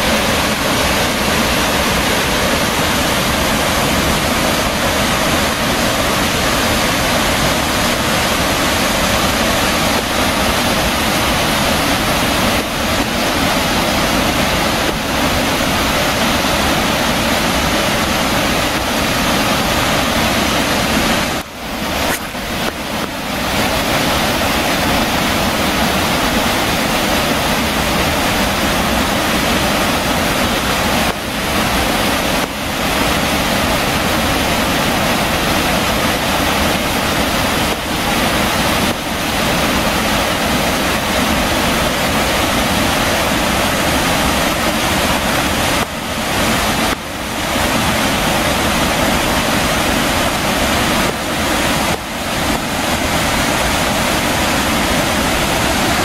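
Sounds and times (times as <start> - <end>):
waterfall rushing onto rock: 0.0 - 56.0.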